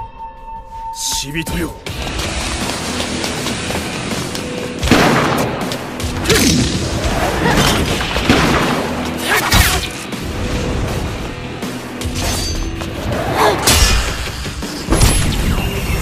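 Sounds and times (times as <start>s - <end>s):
dramatic background music: 0.0s - 16.0s.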